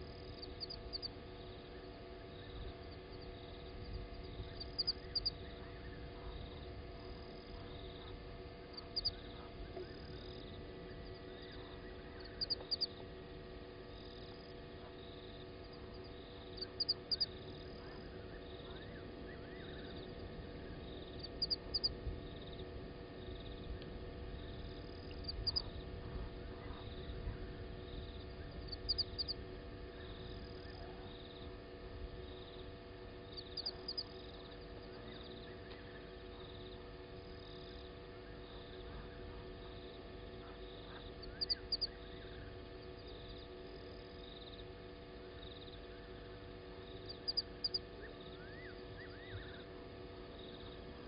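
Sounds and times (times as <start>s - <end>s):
steady electrical hum: 0.0s - 51.0s.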